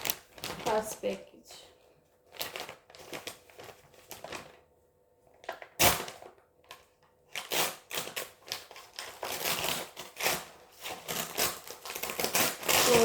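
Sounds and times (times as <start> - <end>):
plastic packaging rustling: 0.0 - 1.2, 2.2 - 13.0.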